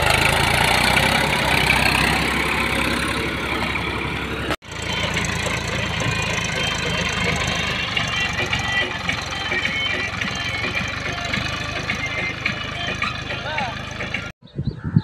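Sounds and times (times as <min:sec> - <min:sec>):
tractor diesel engine running: 0:00.0 - 0:14.4.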